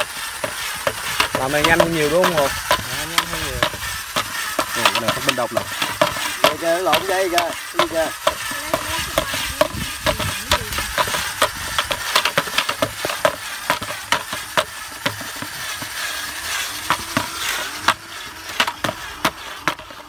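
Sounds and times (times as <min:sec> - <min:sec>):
twine winding onto spool: 0:00.0 - 0:20.0.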